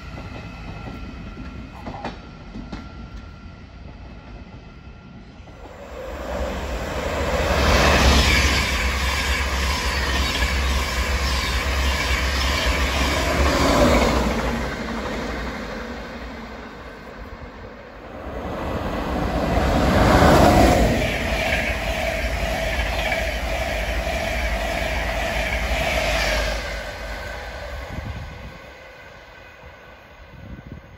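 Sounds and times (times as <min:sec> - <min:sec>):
train passing through station: 0:00.0 - 0:30.9
train whine: 0:00.0 - 0:30.9.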